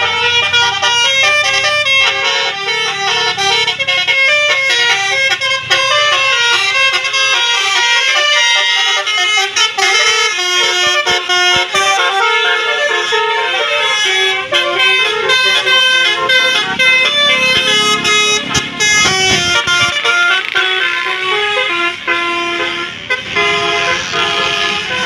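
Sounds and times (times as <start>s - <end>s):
musical air horn melody: 0.0s - 25.0s.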